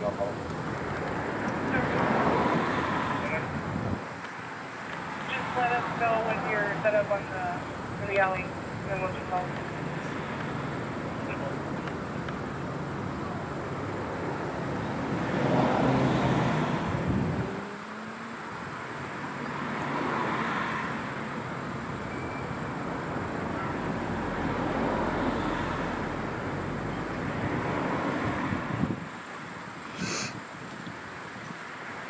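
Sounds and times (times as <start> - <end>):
car passing: 0.0 - 30.3
street traffic engine hum: 0.0 - 32.0.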